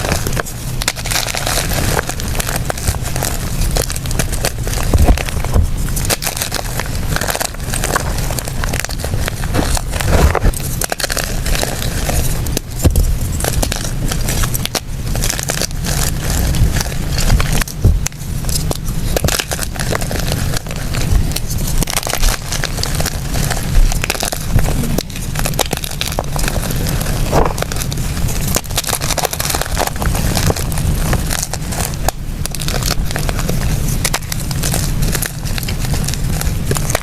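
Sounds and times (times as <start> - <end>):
chalk crunching by hand: 0.0 - 37.0.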